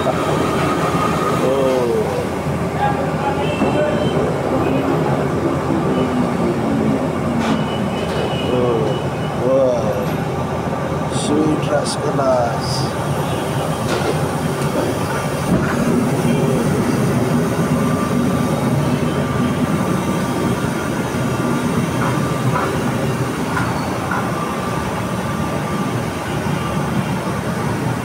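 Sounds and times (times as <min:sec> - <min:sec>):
syrup boiling with rumbling roar: 0:00.0 - 0:28.0.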